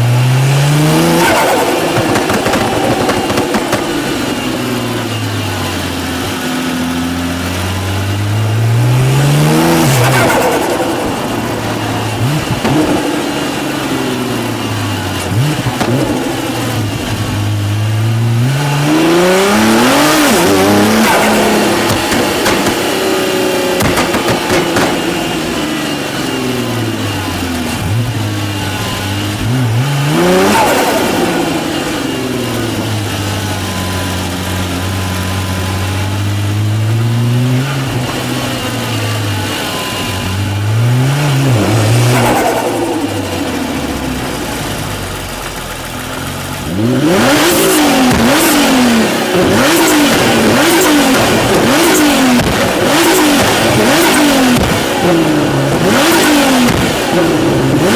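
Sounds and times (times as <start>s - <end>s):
car engine accelerating: 0.0s - 57.9s
engine revving in blips: 0.0s - 57.9s
exhaust cracks: 0.0s - 57.9s.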